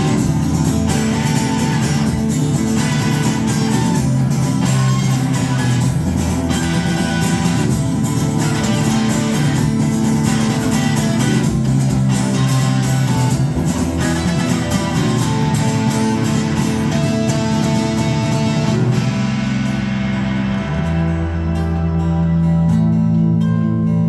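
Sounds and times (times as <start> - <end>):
rock band playing live: 0.0 - 23.4.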